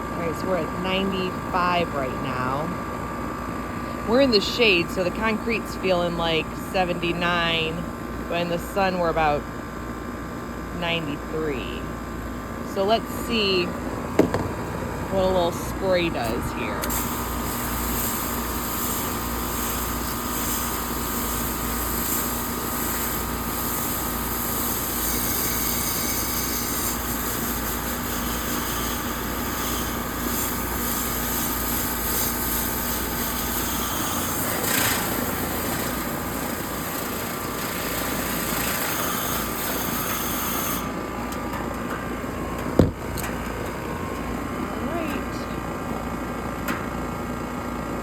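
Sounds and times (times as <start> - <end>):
air conditioner humming: 0.0 - 48.0.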